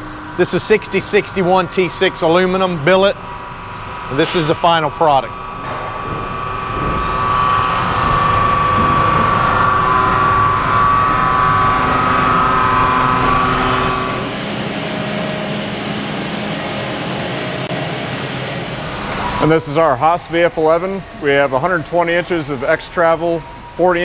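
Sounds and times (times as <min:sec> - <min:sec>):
high machine whine: 0:00.0 - 0:24.0
machinery mechanical drone: 0:00.0 - 0:24.0.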